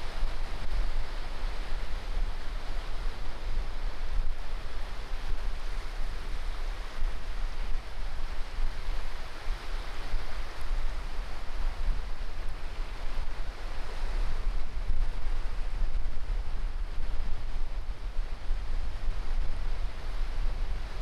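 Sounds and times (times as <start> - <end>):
waves washing up a beach: 0.0 - 21.0
wind rumbling on microphone: 0.0 - 21.0.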